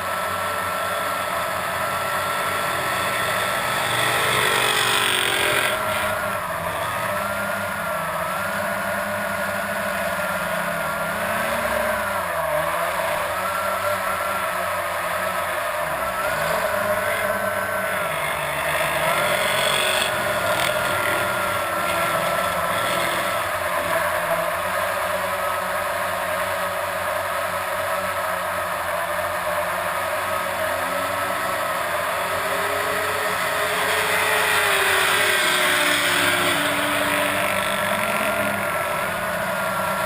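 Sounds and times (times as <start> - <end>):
faint engine: 0.0 - 40.0
quadcopter motors whining: 0.0 - 40.0.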